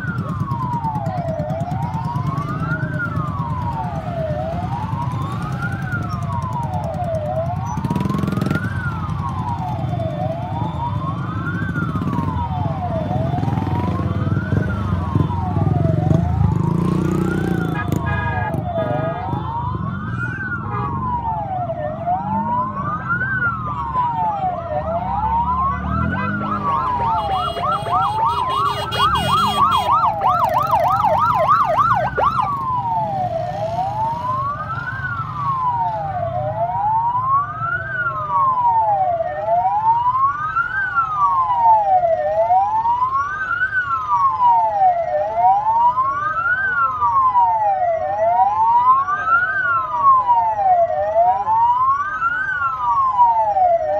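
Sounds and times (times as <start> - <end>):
siren wailing: 0.0 - 53.9
siren yelping: 0.0 - 53.9
vehicle engines running: 0.0 - 53.9.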